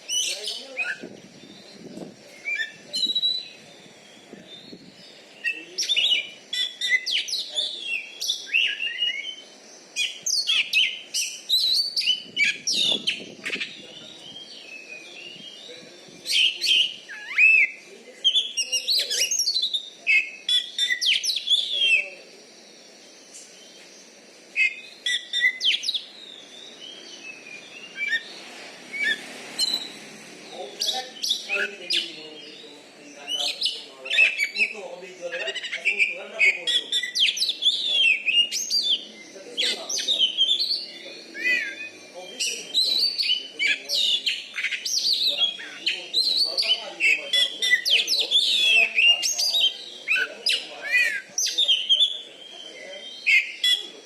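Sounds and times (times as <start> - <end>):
songbird whistling and chirping: 0.0 - 30.0, 30.6 - 54.0.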